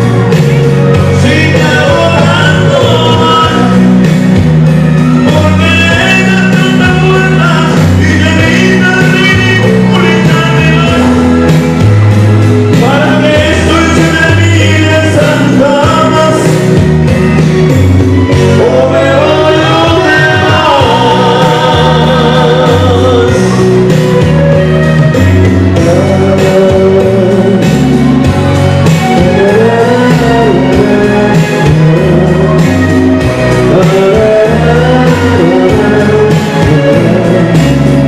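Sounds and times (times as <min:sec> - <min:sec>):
instrumental accompaniment with bass: 0:00.0 - 0:38.0
man singing into a microphone: 0:00.1 - 0:11.8, 0:12.7 - 0:17.4, 0:18.2 - 0:38.0.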